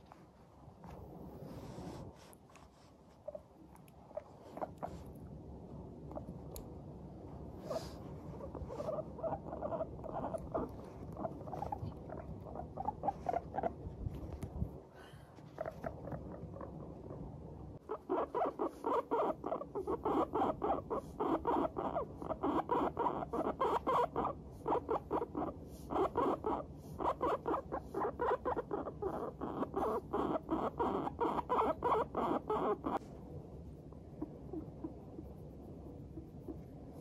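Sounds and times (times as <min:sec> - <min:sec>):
guinea pig chutting: 0:01.5 - 0:14.7, 0:15.4 - 0:37.0.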